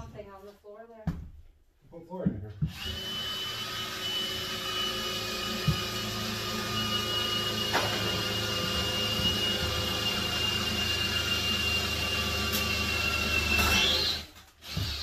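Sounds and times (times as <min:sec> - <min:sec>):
machine motor whining: 0:02.7 - 0:15.0.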